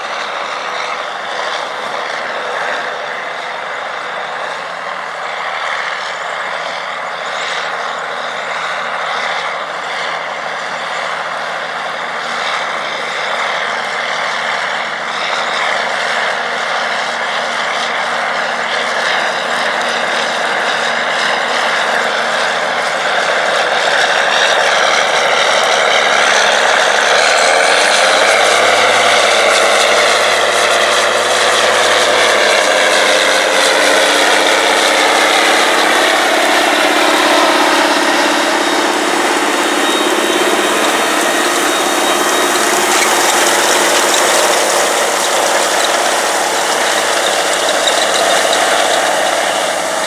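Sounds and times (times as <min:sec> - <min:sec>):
tractor diesel engine under load: 0:00.0 - 0:50.0.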